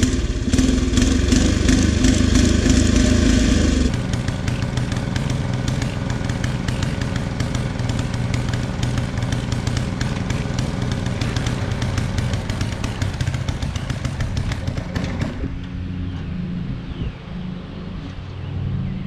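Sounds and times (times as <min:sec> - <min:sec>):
tines churning soil: 0:00.0 - 0:15.6
tiller engine running: 0:00.0 - 0:15.9.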